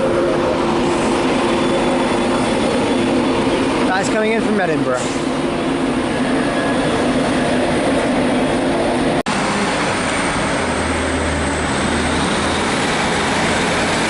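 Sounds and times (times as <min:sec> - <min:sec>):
electric locomotive running hum: 0:00.0 - 0:14.0.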